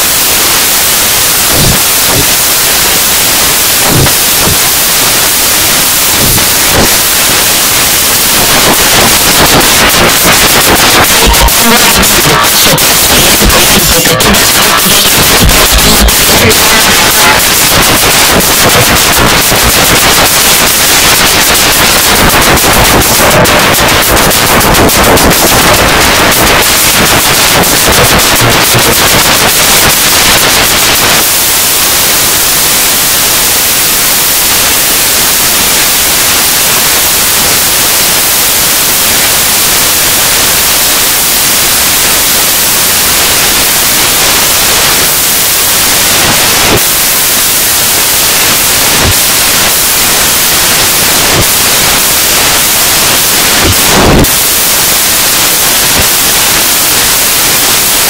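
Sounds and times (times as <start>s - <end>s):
static crackling: 0.0s - 58.0s
static hiss: 0.0s - 58.0s.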